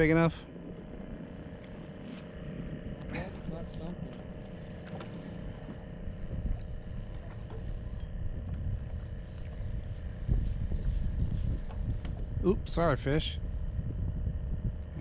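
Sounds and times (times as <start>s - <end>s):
faint steady hum: 0.0s - 15.0s
wind buffeting microphone: 0.8s - 15.0s.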